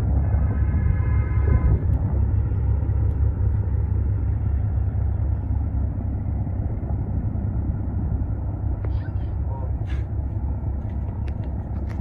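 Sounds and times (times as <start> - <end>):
ship engine rumble: 0.0 - 12.0.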